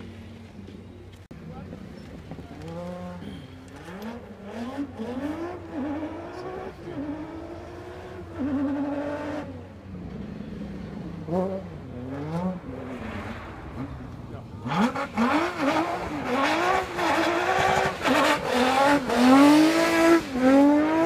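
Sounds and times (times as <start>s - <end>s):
race car engine revving: 1.7s - 21.0s.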